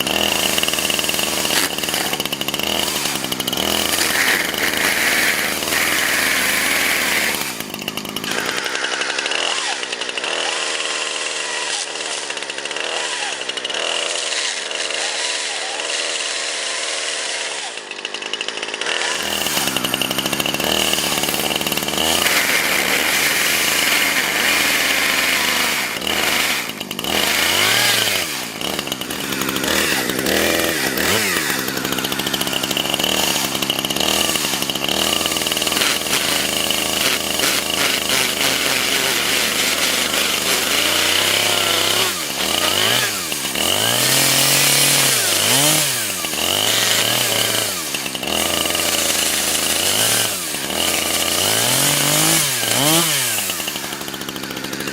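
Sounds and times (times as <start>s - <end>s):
chainsaw cutting: 0.0s - 54.9s.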